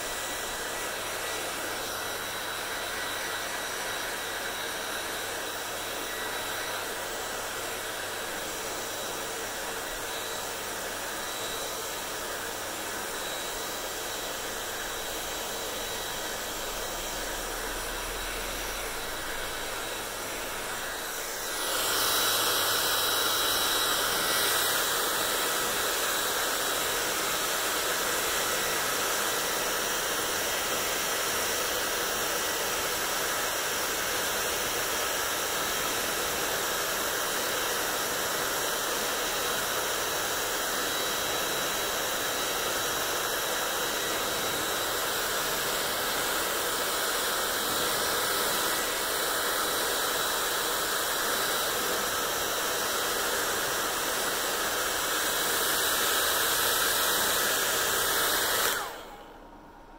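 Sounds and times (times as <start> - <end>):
hair dryer blowing: 0.0 - 59.9.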